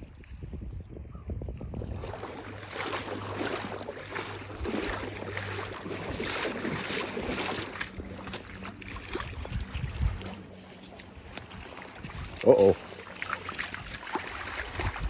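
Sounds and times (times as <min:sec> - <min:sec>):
wind buffeting microphone: 0:00.0 - 0:12.8, 0:13.7 - 0:15.0
small waves lapping at shore: 0:01.8 - 0:15.0.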